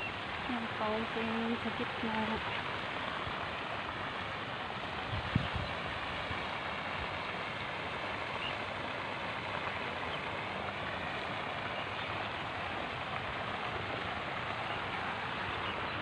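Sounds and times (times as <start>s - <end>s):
fountain spray splashing into water: 0.0s - 16.0s.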